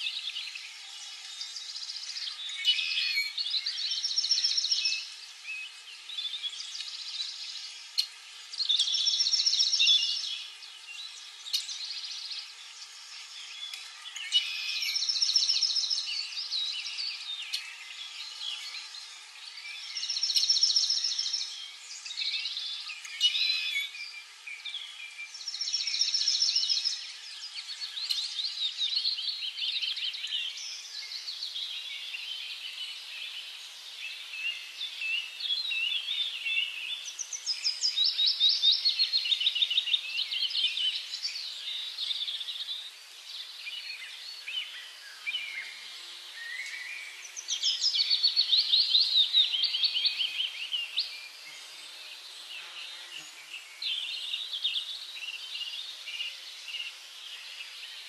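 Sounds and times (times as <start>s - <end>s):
songbirds chirping: 0.0s - 58.0s
trilled bird song: 0.0s - 58.0s.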